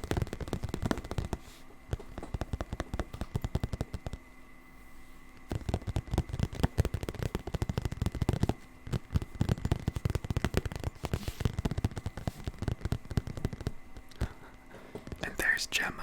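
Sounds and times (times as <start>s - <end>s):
tapping and scratching on object: 0.0s - 4.3s, 5.4s - 15.6s.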